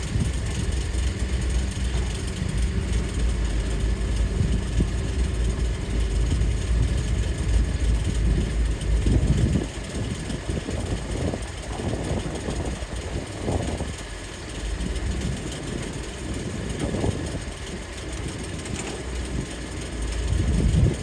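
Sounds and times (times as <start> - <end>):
diesel engines rumbling: 0.0 - 21.0.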